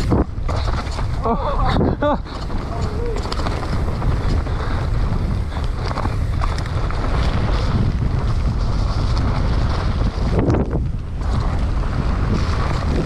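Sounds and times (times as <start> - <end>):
bike rattling over rough ground: 0.0 - 13.0
wind buffeting microphone: 0.0 - 13.0.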